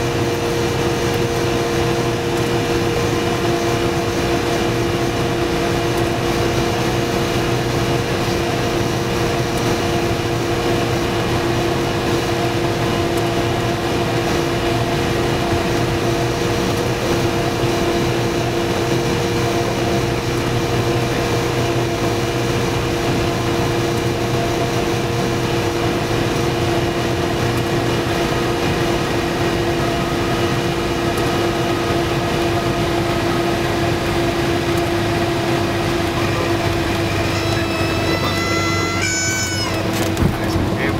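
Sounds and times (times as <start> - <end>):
airplane engine and propeller droning: 0.0 - 40.9.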